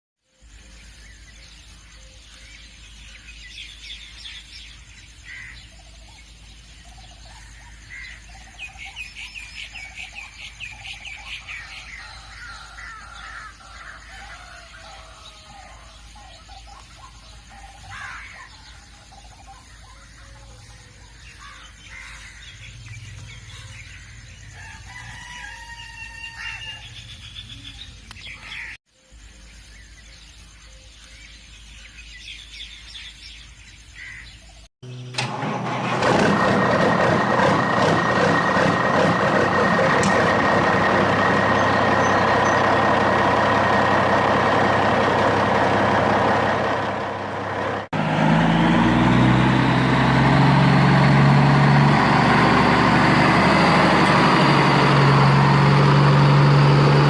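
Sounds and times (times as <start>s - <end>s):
birds calling and chirping: 0.2s - 35.5s, 38.0s - 57.0s.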